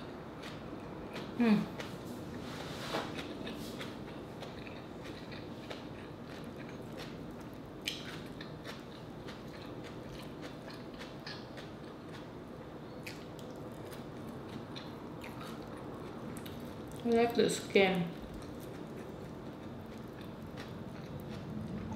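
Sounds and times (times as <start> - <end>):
chewing and mouth sounds: 0.0 - 17.4, 18.1 - 21.9.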